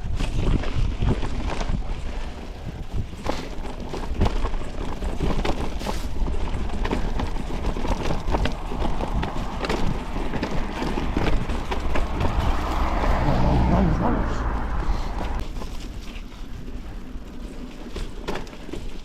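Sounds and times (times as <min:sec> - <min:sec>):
bike rattling over stones: 0:00.0 - 0:13.3, 0:15.4 - 0:19.0
wind buffeting microphone: 0:00.0 - 0:17.2
bike tyres rolling rumble: 0:00.0 - 0:19.0.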